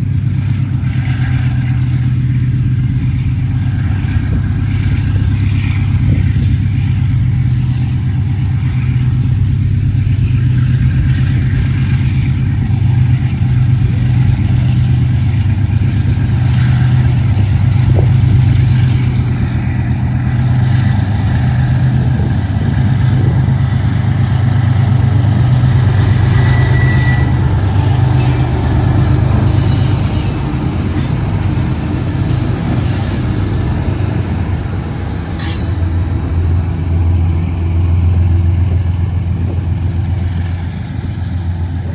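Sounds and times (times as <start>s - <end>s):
diesel locomotives droning: 0.0s - 41.9s
wheel squeal: 4.5s - 41.5s.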